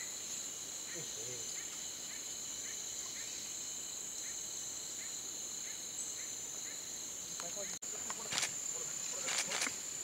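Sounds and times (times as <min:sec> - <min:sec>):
shrill insect chorus: 0:00.0 - 0:10.0.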